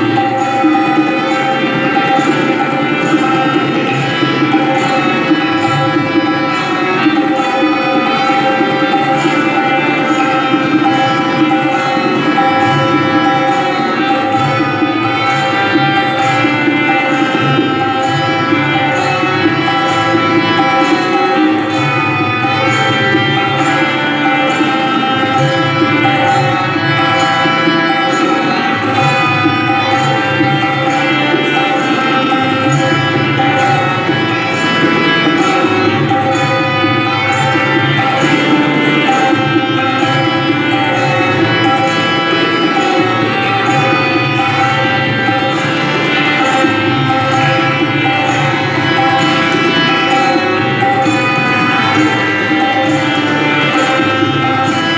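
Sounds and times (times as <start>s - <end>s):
tabla playing: 0.0s - 54.9s.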